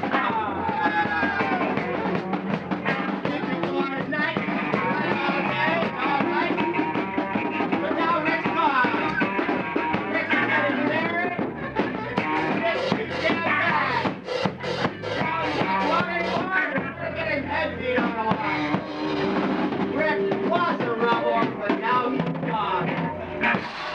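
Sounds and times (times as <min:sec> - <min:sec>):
drums: 0:00.0 - 0:23.9
lead vocal singing: 0:00.0 - 0:23.9
rock band playing: 0:00.0 - 0:23.9.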